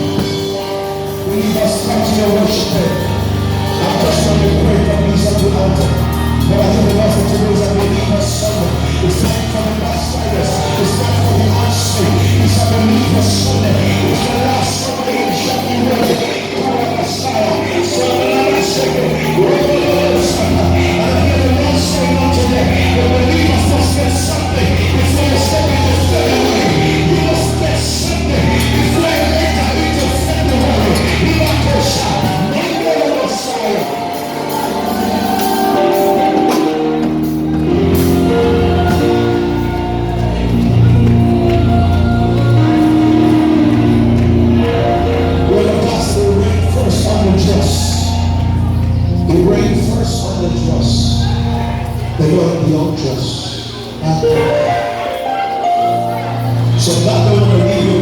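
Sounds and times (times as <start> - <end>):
band playing worship music: 0.0 - 58.0
person singing: 0.0 - 58.0.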